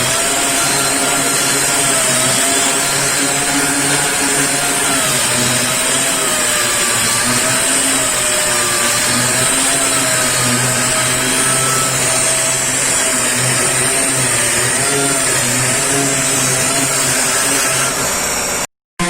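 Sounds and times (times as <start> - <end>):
power sander hissing: 0.0 - 18.7.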